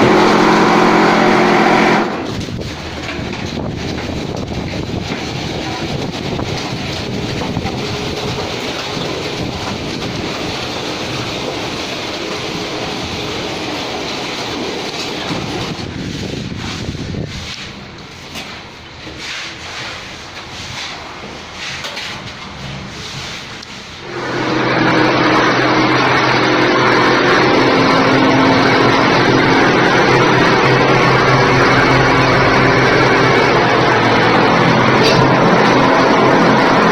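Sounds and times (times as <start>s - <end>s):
plastering machine running: 0.0s - 36.9s.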